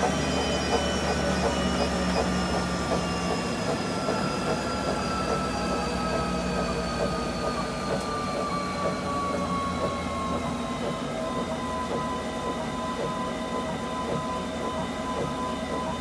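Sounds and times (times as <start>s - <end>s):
treadmill motor whine slowing: 0.0s - 16.0s.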